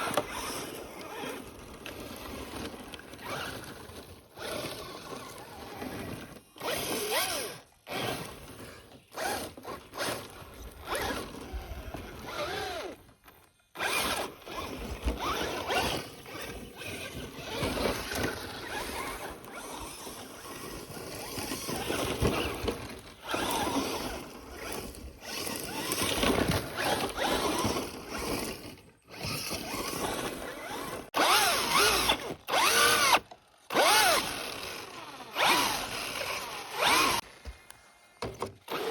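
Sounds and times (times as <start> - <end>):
electric toy truck motor whining: 0.0 - 37.6, 38.5 - 38.9.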